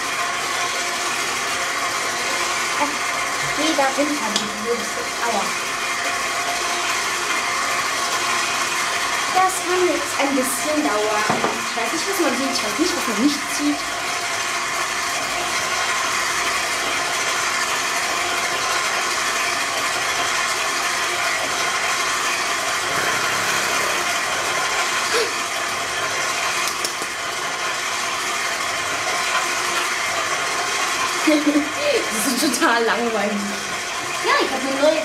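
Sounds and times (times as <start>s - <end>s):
stand mixer running: 0.0s - 35.0s.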